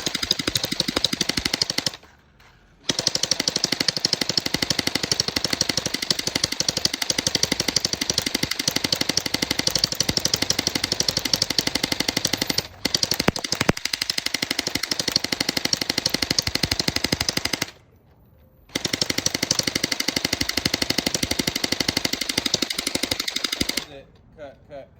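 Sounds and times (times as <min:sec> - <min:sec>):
gel blaster firing rapidly: 0:00.0 - 0:02.0, 0:02.9 - 0:17.7, 0:18.7 - 0:23.9.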